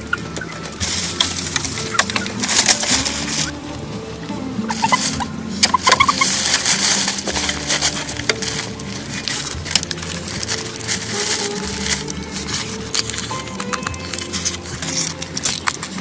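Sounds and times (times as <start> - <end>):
dense crackling and rustling: 0.0 - 16.0
soft background music: 0.0 - 16.0.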